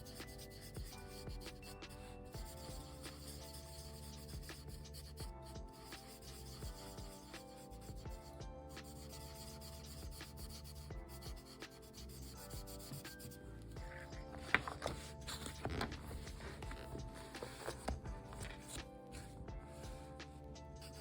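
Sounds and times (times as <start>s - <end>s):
drawing strokes on paper: 0.0s - 21.0s
soft background music: 0.0s - 21.0s.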